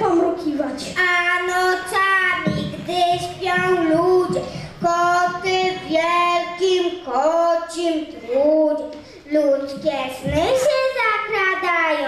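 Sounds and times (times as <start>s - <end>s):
young children singing: 0.9s - 12.0s.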